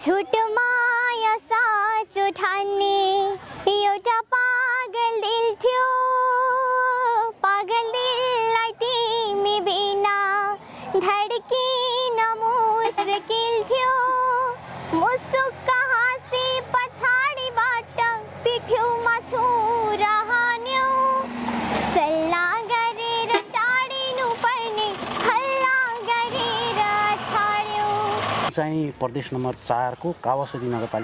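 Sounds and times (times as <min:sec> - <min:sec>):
girl singing: 0:00.0 - 0:28.2.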